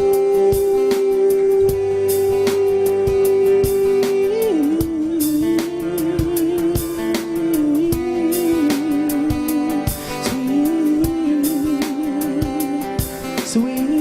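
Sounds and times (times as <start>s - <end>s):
song with guitar and drums: 0.0s - 14.0s.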